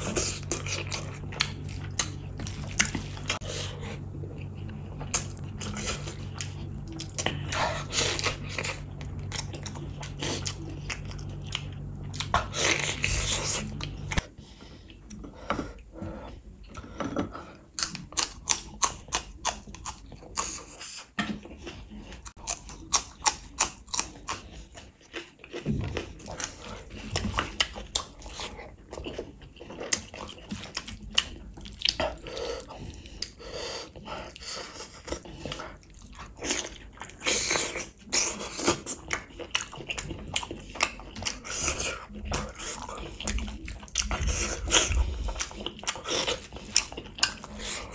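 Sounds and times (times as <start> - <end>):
chewing and smacking: 0.0 - 47.9
low steady hum: 0.0 - 47.9.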